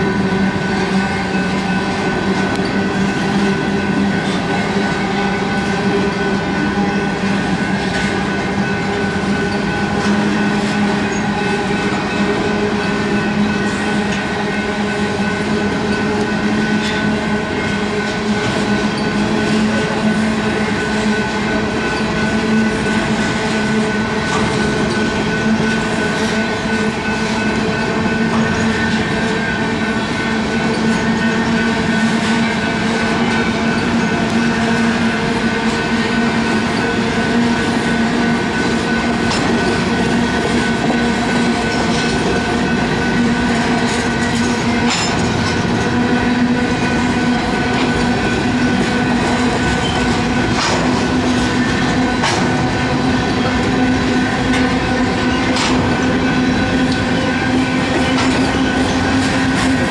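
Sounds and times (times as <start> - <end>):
train wheels clattering on rail: 0.0 - 59.9.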